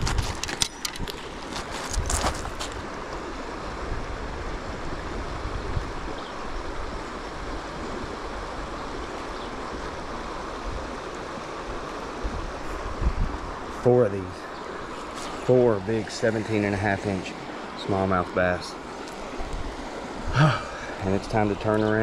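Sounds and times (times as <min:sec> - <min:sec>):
creek water flowing: 0:00.0 - 0:22.0.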